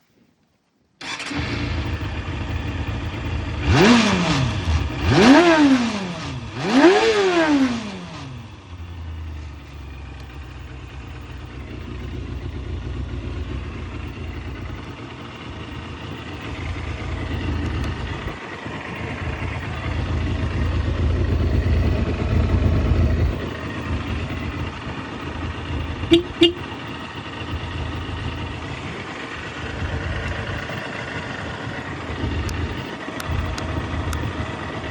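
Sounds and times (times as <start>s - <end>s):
motorcycle engine revving and idling: 1.0s - 34.9s.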